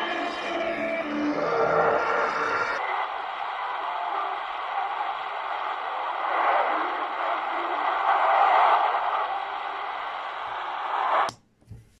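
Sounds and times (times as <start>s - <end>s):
radio static hiss: 1.5s - 11.3s.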